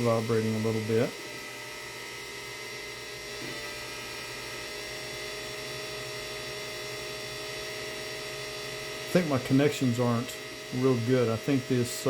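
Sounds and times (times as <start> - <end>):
electric motor hum and whine: 0.0 - 12.0.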